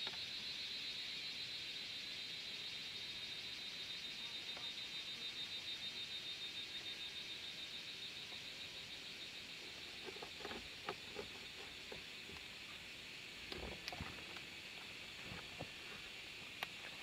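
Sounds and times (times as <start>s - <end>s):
high insect buzz: 0.0s - 17.0s.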